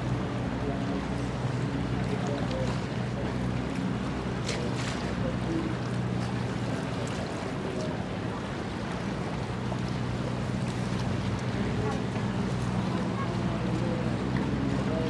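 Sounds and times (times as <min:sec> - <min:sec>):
ship machinery hum: 0:00.0 - 0:15.0
water noise: 0:00.0 - 0:15.0
wind: 0:00.0 - 0:15.0.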